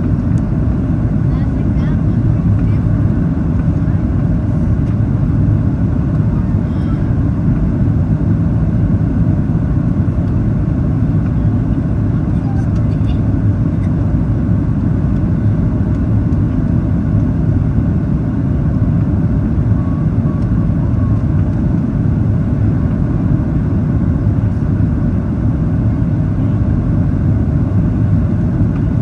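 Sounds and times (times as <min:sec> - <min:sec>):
aircraft engine and airflow noise: 0:00.0 - 0:29.0.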